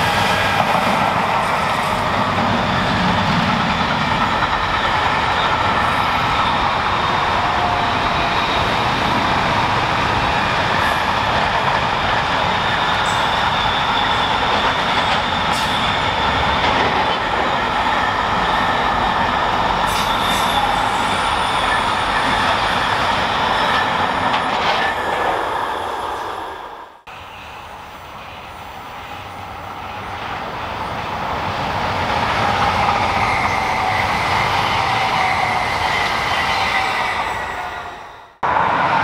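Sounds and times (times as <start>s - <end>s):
freight train rolling past: 0.0s - 39.0s
high squealing wheels: 0.0s - 39.0s.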